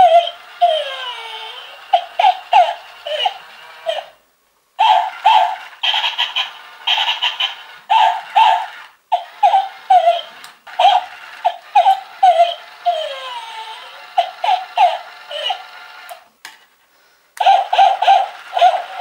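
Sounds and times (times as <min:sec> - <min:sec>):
toy dog whining: 0:00.0 - 0:04.2, 0:04.8 - 0:16.3, 0:17.4 - 0:19.0
toy dog yipping: 0:00.0 - 0:04.2, 0:04.8 - 0:16.2, 0:17.4 - 0:19.0.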